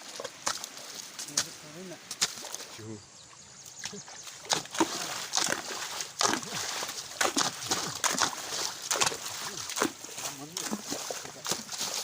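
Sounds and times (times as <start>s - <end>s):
wet soil being dug: 0.0s - 3.0s, 3.8s - 12.0s.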